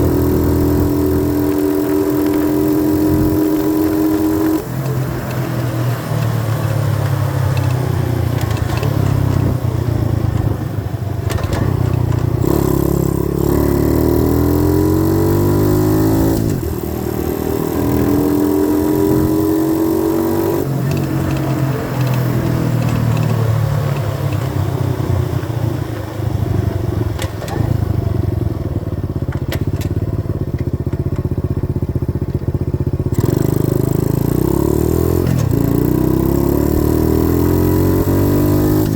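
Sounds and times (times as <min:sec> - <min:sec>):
dirt bike engine accelerating: 0:00.0 - 0:30.0, 0:32.8 - 0:38.9.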